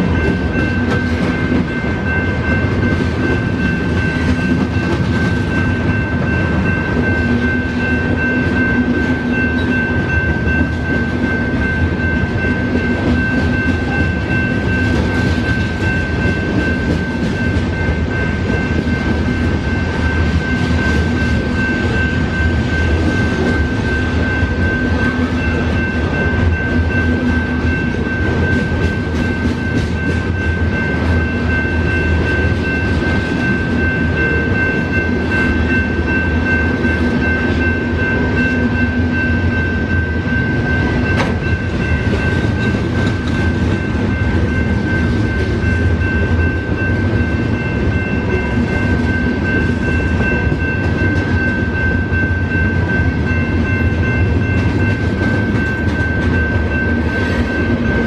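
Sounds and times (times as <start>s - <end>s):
crossing warning bell ringing: 0.0s - 58.0s
freight train wheels rumbling on rails: 0.0s - 58.0s.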